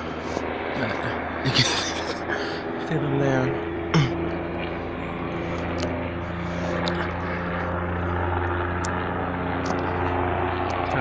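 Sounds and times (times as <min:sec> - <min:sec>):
low-flying aircraft droning: 0:00.0 - 0:11.0.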